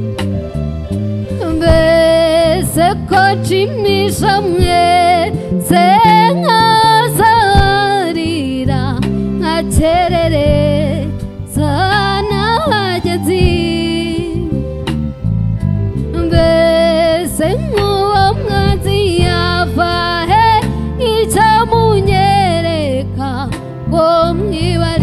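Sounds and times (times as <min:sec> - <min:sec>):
drums: 0:00.0 - 0:22.6, 0:23.4 - 0:25.0
electric bass: 0:00.0 - 0:25.0
keyboard: 0:00.0 - 0:25.0
woman singing with vibrato: 0:01.4 - 0:14.6, 0:16.2 - 0:25.0.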